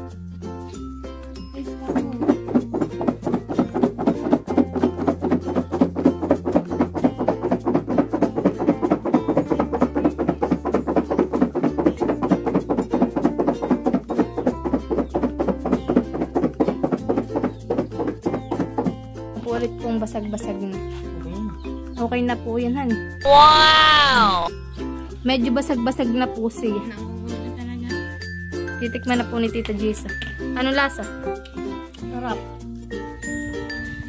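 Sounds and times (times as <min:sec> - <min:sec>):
guitar background music: 0:00.0 - 0:34.0.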